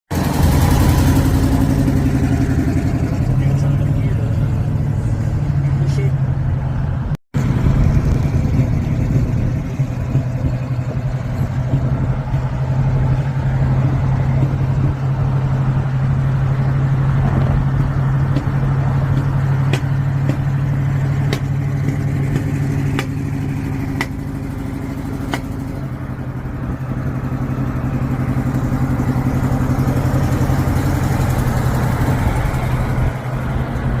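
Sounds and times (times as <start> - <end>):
car engine droning: 0.1 - 34.0.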